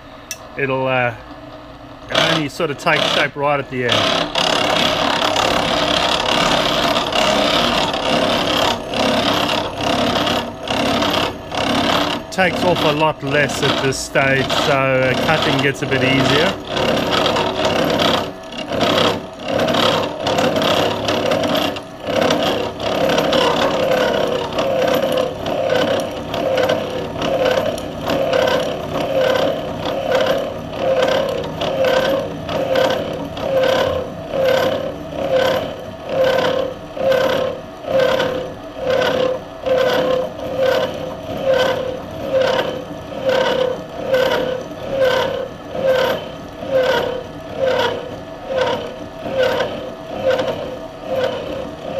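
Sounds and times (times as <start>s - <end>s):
milling machine cutting metal: 2.1s - 51.9s.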